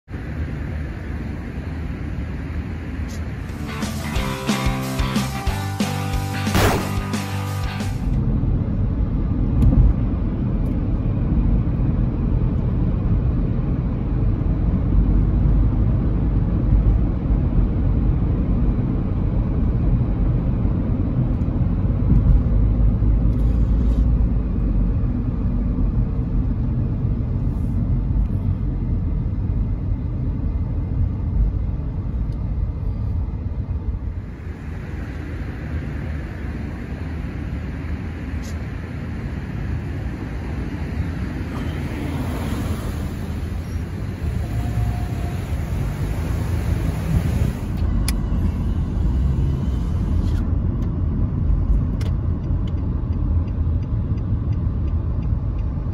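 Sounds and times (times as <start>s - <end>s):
car road noise rumble: 0.0s - 5.6s, 6.4s - 55.9s.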